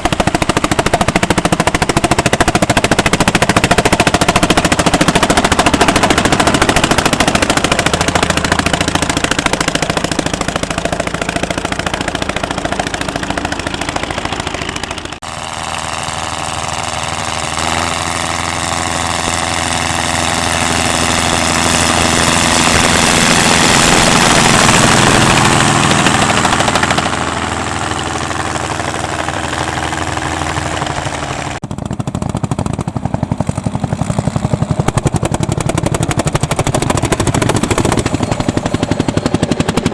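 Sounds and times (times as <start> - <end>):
tractor engines under load: 0.0 - 39.9.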